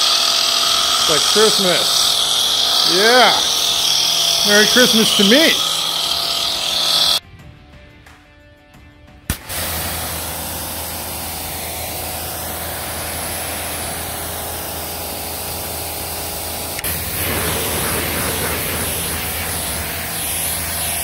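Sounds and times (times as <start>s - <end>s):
pressure washer motor humming: 0.0s - 7.2s, 9.3s - 21.0s
water jet hissing: 0.0s - 7.2s, 9.3s - 21.0s.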